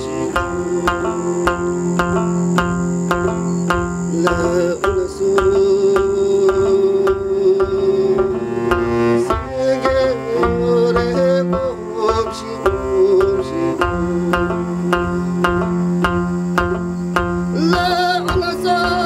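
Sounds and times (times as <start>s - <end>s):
man singing: 0.0s - 16.8s, 17.4s - 19.0s
cello bowed notes: 0.0s - 19.0s
lute strumming: 0.0s - 19.0s.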